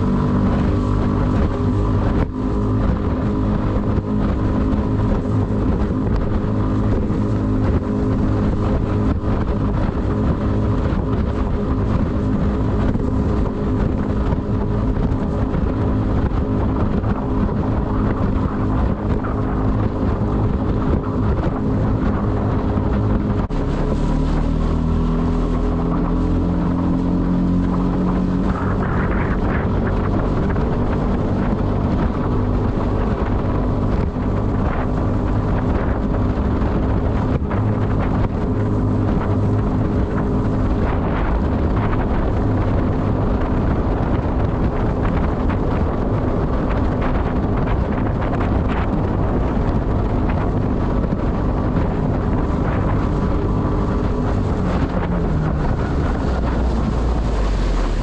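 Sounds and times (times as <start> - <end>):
outboard motor running: 0.0 - 58.0
water rushing past hull: 0.0 - 58.0
wind buffeting microphone: 0.0 - 58.0.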